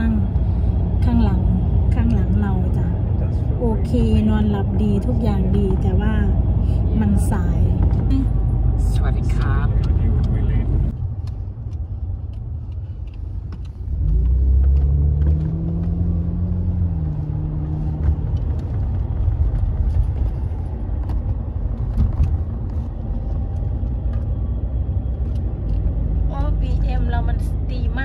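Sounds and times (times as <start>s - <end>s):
car engine accelerating: 0.0s - 28.0s
low road rumble: 0.0s - 28.0s.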